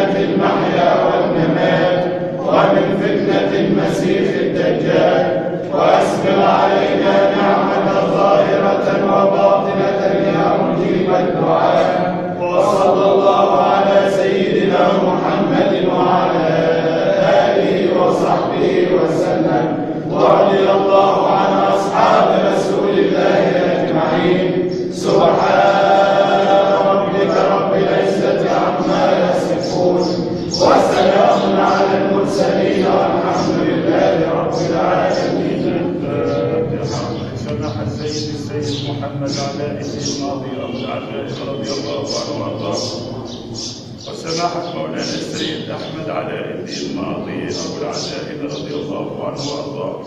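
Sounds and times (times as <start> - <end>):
men chanting in unison: 0.0 - 50.0.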